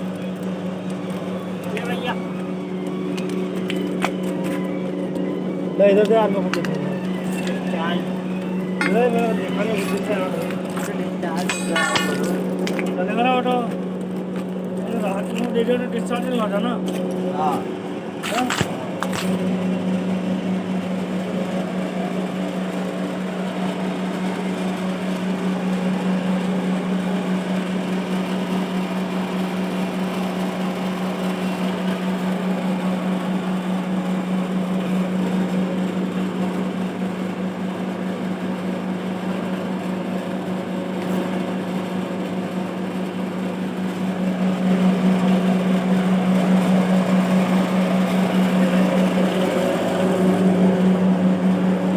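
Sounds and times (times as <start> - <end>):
boiler machine drone: 0.0 - 51.9.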